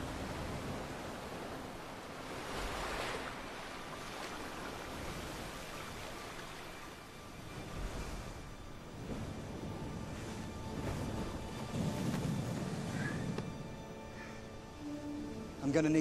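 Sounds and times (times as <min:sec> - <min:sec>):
ocean waves breaking on beach: 0:00.0 - 0:16.0.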